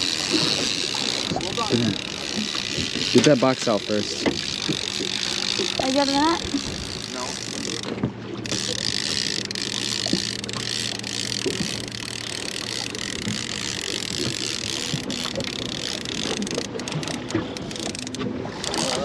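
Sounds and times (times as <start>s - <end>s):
boat motor running: 0.0s - 19.0s
wind and water hiss: 0.0s - 19.0s.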